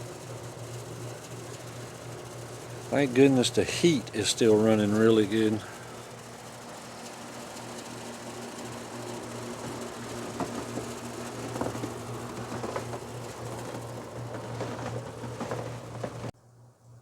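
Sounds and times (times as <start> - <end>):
heating system hum: 0.0 - 17.0.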